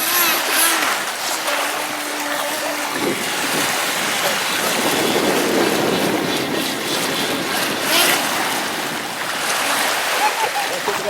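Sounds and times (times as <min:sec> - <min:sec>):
electric motor whine: 0:00.0 - 0:10.1
water wash and surf: 0:00.0 - 0:11.0.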